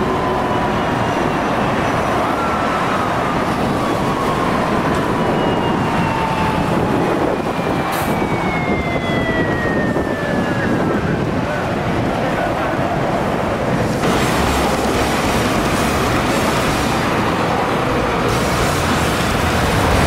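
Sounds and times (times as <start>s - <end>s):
expressway traffic noise: 0.0s - 20.0s.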